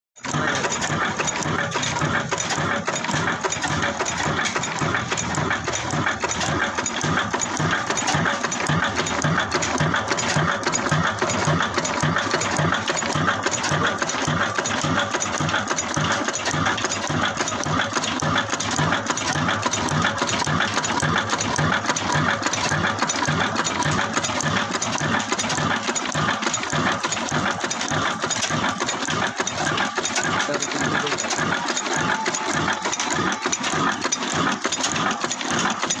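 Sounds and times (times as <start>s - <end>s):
diesel engine running: 0.2s - 36.0s
mechanical clattering: 0.2s - 36.0s.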